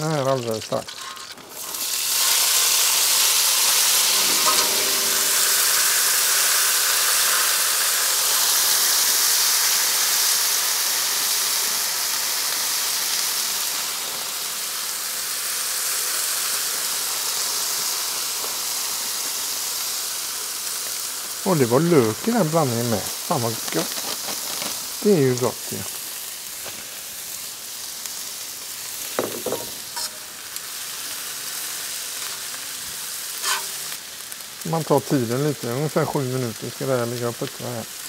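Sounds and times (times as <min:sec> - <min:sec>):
vegetables sizzling in oil: 0:00.0 - 0:38.0.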